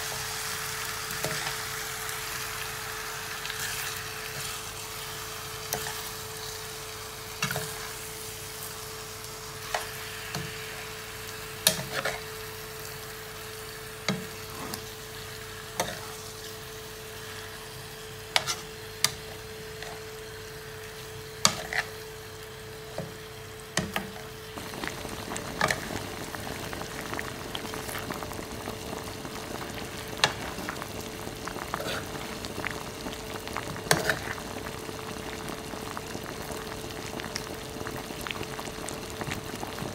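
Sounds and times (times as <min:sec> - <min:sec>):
chicken sizzling in a frying pan: 0:00.0 - 0:39.9.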